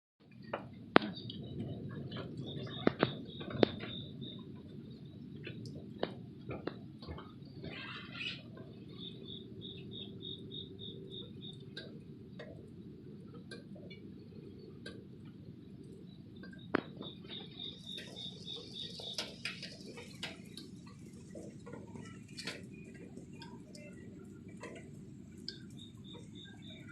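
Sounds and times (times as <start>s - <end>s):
rain pattering: 0.2s - 26.9s
drips ticking: 0.3s - 26.9s
rain hiss: 0.4s - 26.9s.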